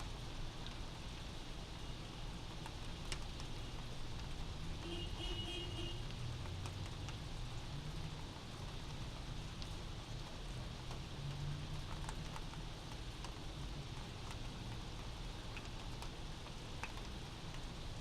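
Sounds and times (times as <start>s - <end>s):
steady rain: 0.0s - 18.0s
drops ticking on a surface: 2.2s - 18.0s.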